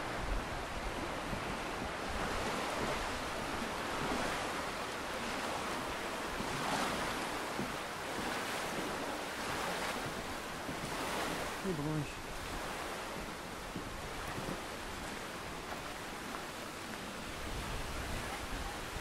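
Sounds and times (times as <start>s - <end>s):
wind rushing through trees: 0.0s - 19.0s.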